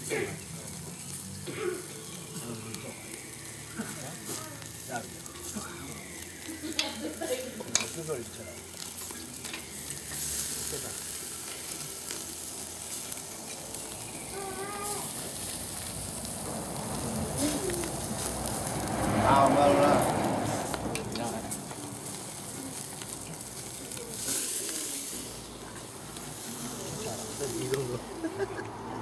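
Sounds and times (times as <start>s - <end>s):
chicken sizzling on a grill: 0.0s - 29.0s.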